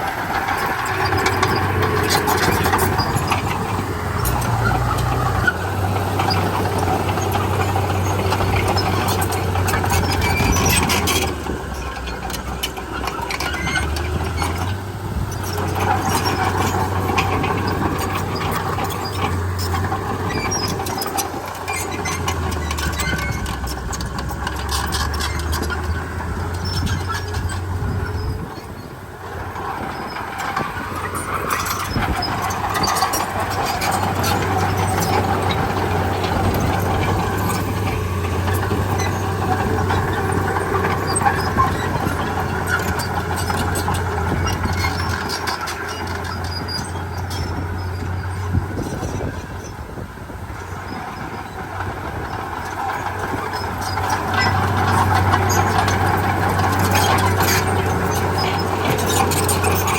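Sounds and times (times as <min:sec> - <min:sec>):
bulldozer diesel engine: 0:00.0 - 0:59.9
steel tracks squealing and clattering: 0:00.0 - 0:59.9.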